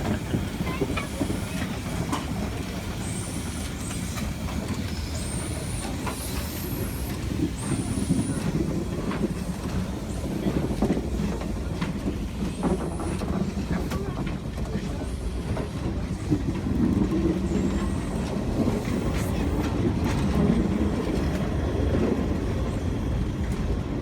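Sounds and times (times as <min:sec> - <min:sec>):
clickety-clack of rail joints: 0:00.0 - 0:24.0
steam train wheels rumbling: 0:00.0 - 0:24.0.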